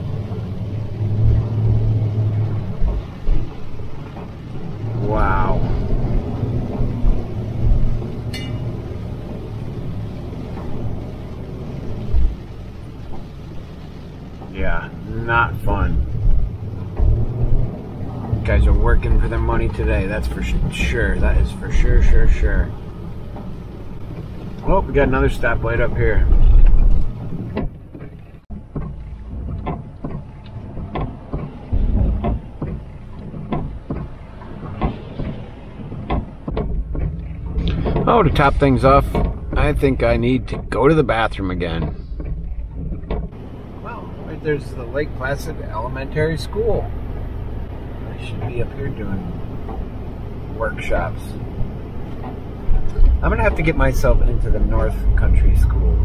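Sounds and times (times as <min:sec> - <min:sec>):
engine and road rumble in cab: 0:00.0 - 0:56.0
low thumps: 0:00.0 - 0:56.0.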